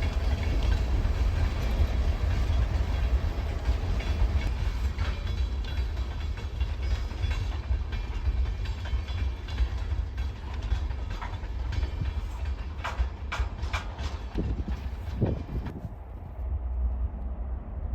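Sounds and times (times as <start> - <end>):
freight train rumbling past: 0.0 - 17.9.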